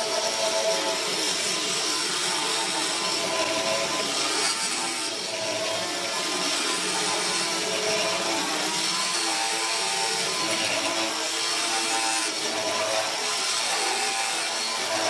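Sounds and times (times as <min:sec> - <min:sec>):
electric power tool cutting wood: 0:00.0 - 0:15.0.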